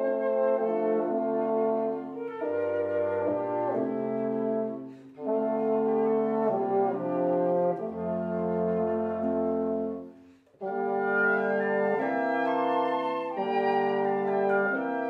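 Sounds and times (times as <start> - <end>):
wind quintet playing chords: 0.0 - 15.0.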